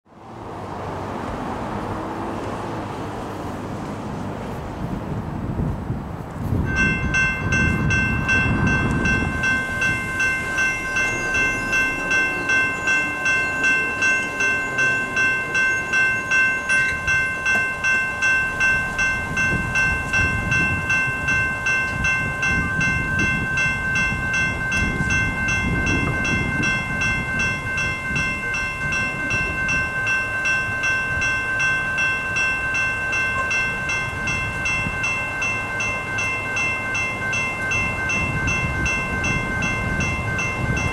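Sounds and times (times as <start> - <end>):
railroad crossing bell ringing: 6.5 - 40.9.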